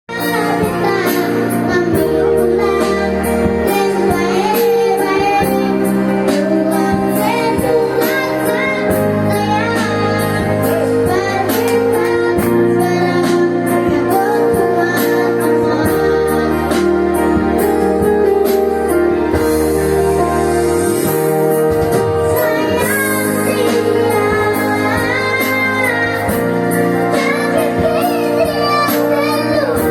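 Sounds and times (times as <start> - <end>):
boy singing: 0.1 - 18.2, 22.2 - 29.9
backing music with steady beat: 0.1 - 29.9.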